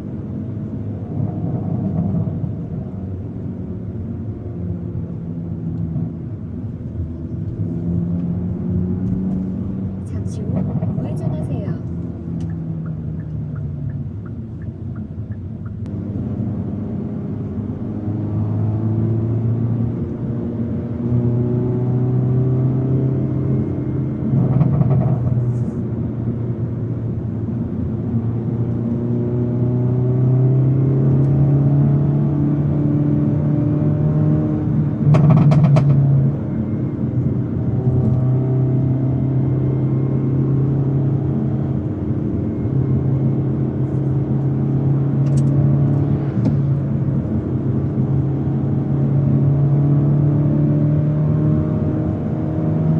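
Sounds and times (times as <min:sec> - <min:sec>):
car engine and exhaust accelerating: 0:00.0 - 0:52.9.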